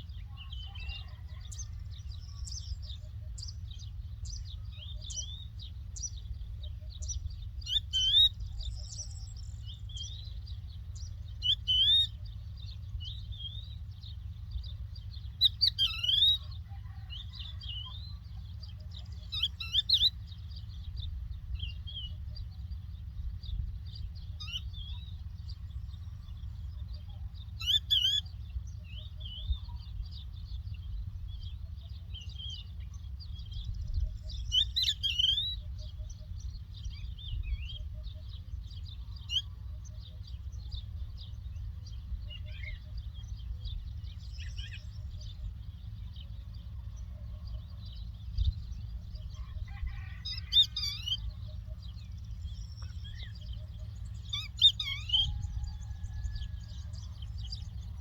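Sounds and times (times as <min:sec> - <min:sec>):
larks twittering and trilling: 0:00.0 - 0:58.0
steady low rumble: 0:00.0 - 0:58.0.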